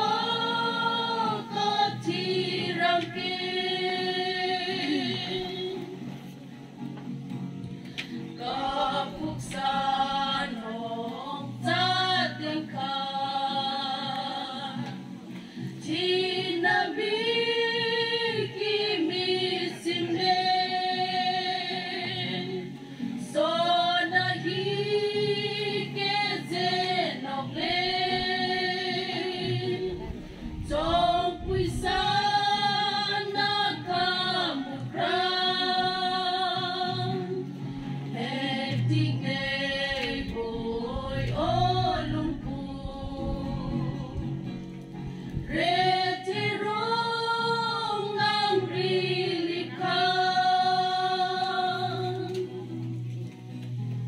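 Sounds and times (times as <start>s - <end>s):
women singing together: 0.0s - 6.2s, 8.1s - 52.8s.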